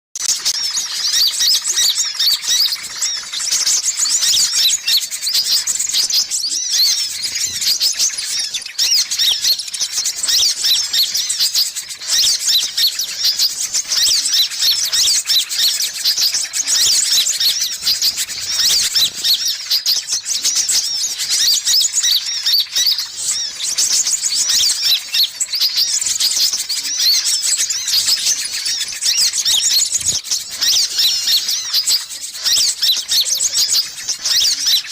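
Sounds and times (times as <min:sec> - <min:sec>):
birds twittering and chirping: 0:00.2 - 0:34.9.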